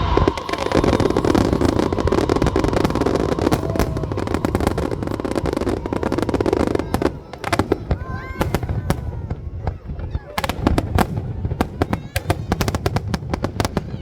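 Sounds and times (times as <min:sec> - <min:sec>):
fireworks crackling bangs: 0:00.0 - 0:14.0.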